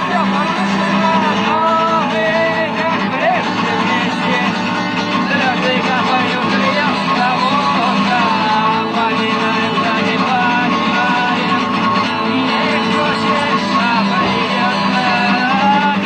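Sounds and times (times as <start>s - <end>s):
person singing: 0.0s - 16.0s
rock song with guitars: 0.0s - 16.0s.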